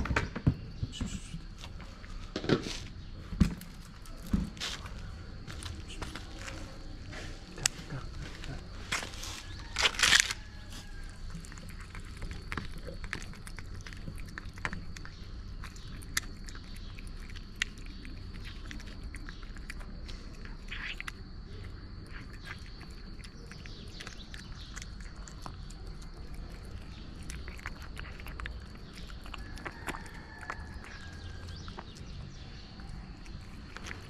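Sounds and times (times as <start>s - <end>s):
cat chewing and licking food: 1.0s - 34.0s.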